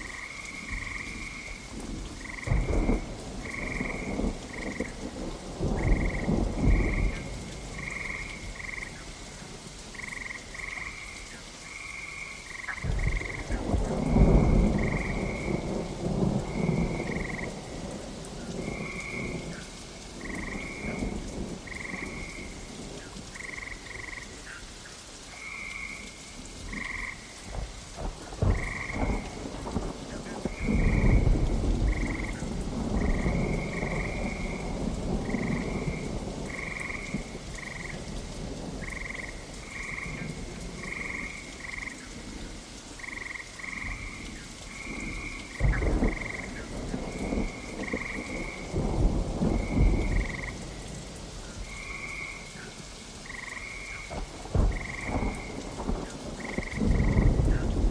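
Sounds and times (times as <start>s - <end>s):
thunder rumbling: 0.0s - 11.0s, 12.6s - 24.4s, 26.1s - 57.9s
frogs croaking: 0.0s - 57.9s
steady rain: 0.0s - 57.9s.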